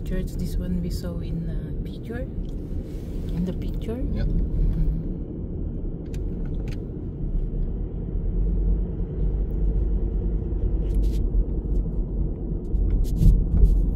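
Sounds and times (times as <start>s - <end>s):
car engine and tyre rumble: 0.0s - 13.9s.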